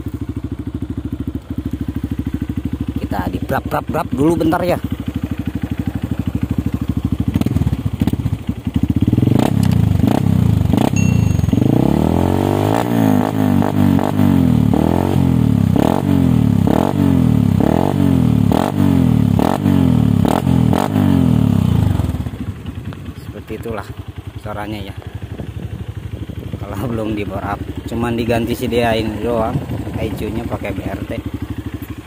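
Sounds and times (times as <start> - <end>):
motorcycle engine idling and revving: 0.0 - 32.0.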